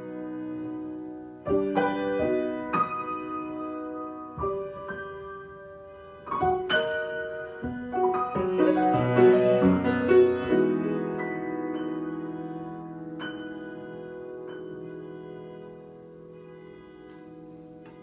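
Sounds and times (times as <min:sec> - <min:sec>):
solo piano: 0:00.0 - 0:18.0.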